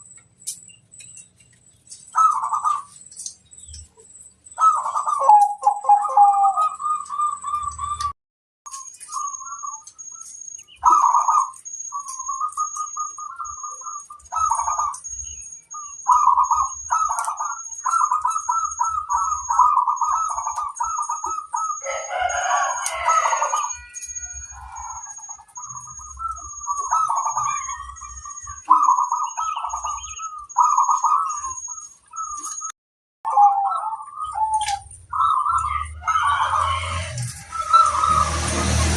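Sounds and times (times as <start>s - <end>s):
doves cooing: 2.0s - 8.1s, 8.8s - 32.6s, 33.3s - 38.9s
harsh bird call: 4.4s - 8.1s, 8.7s - 32.5s, 33.3s - 38.9s.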